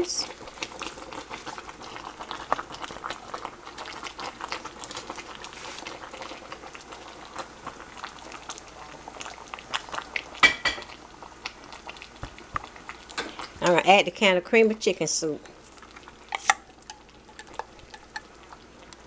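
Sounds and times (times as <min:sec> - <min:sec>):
broth bubbling and popping: 0:00.0 - 0:14.0, 0:15.5 - 0:19.0.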